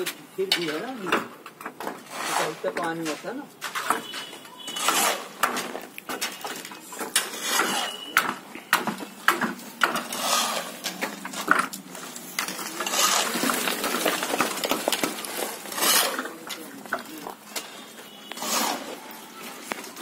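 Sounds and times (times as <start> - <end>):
shovels scraping mortar in metal pan: 1.9 - 8.4, 9.4 - 20.0.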